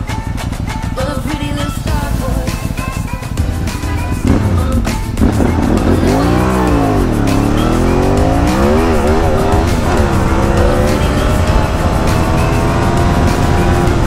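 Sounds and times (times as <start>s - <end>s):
engine revving: 2.0s - 14.0s.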